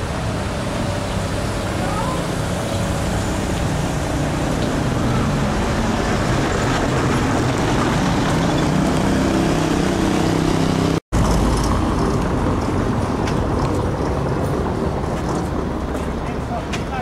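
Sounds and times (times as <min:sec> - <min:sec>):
car engine with road noise: 0:00.0 - 0:17.0
street noise with low rumble: 0:00.0 - 0:17.0.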